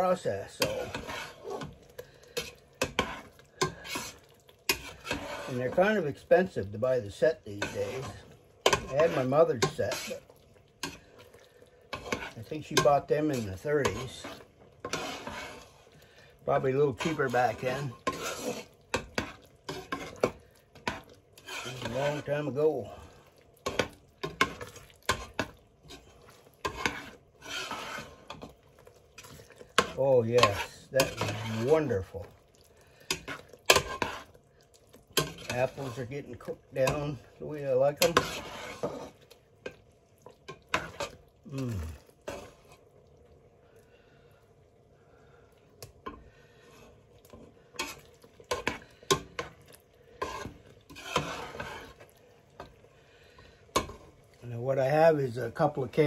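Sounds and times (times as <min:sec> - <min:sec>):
spoon scraping in a pot: 0:00.0 - 0:43.0, 0:45.8 - 0:56.0.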